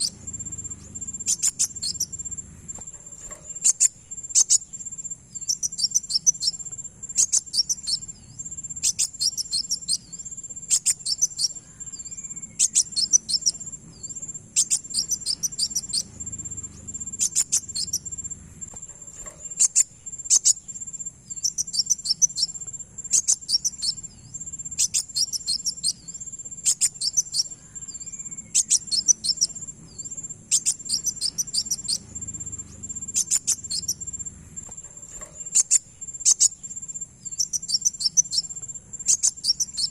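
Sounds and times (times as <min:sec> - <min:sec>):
high steady insect-like whine: 0:00.0 - 0:39.9
sunbird song: 0:00.0 - 0:39.9.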